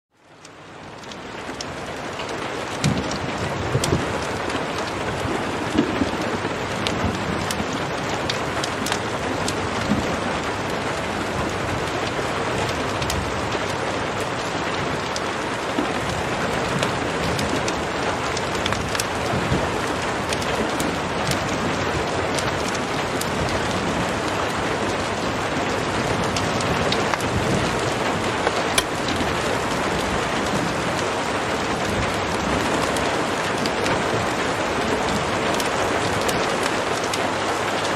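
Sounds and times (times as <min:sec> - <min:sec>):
heavy rain: 0:00.1 - 0:37.9
wood fire crackling: 0:00.2 - 0:37.9.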